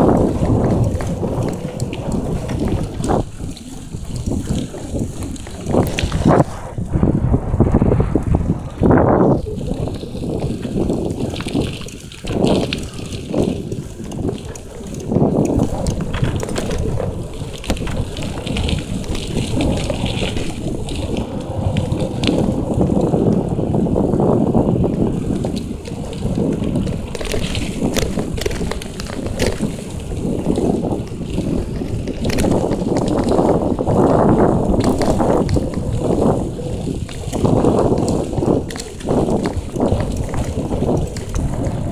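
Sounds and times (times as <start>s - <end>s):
bicycle clicks and rattles: 0.0s - 7.0s, 7.6s - 41.9s
bicycle tyres rolling on dirt: 0.0s - 41.9s
wind on microphone: 0.0s - 41.9s.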